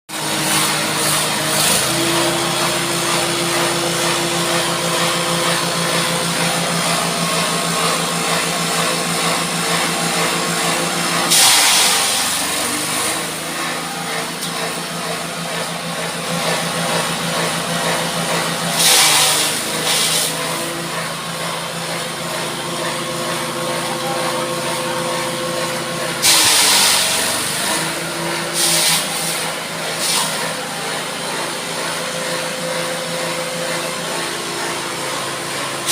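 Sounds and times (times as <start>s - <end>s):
grass chopper engine running: 0.1s - 35.9s
rushing bursts through cutter: 0.2s - 35.9s.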